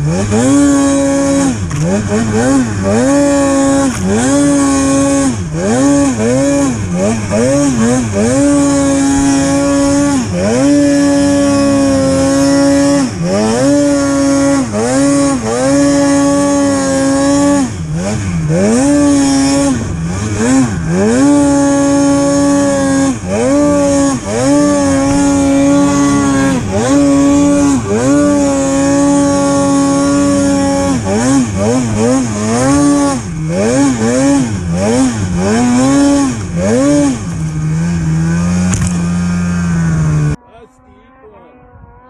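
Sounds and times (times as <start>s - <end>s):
snowmobile engine revving hard: 0.0s - 42.0s.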